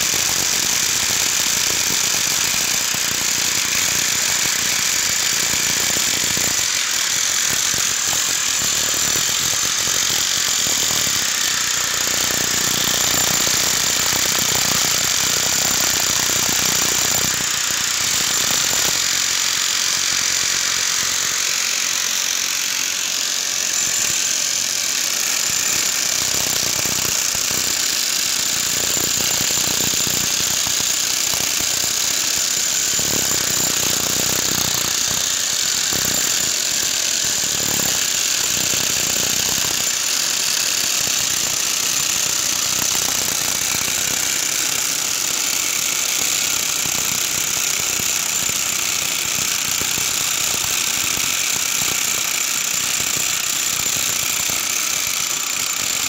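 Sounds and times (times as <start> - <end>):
demolition hammers breaking concrete: 0.0 - 56.0.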